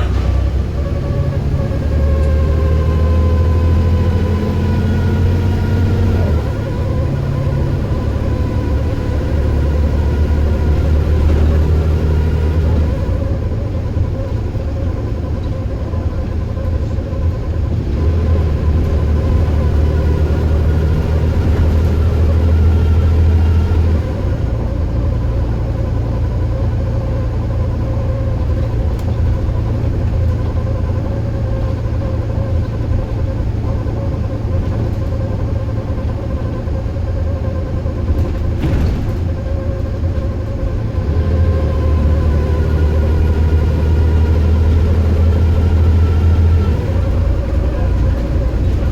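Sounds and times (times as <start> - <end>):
bus engine rumble: 0.0 - 48.9.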